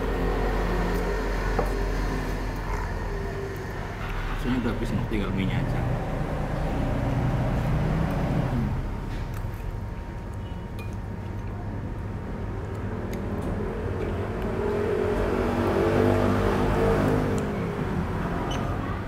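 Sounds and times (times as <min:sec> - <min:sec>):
vehicle engines passing: 0:00.0 - 0:09.8, 0:11.8 - 0:19.0.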